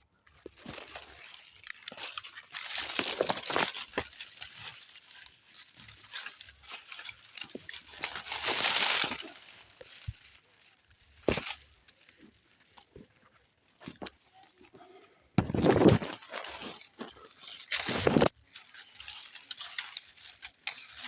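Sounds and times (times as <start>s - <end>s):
dry bean plants rustling: 0.1s - 21.0s.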